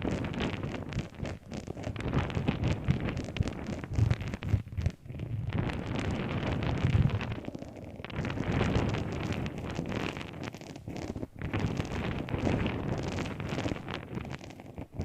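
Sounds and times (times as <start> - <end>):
object rustling and crackling: 0.0 - 15.0.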